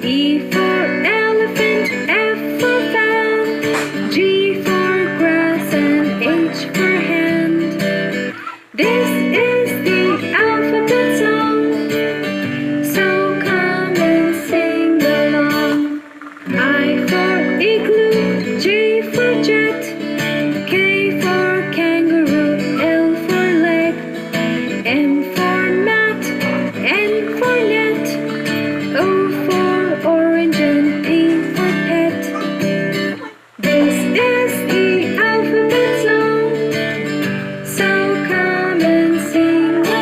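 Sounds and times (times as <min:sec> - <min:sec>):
children's song with guitar: 0:00.0 - 0:40.0.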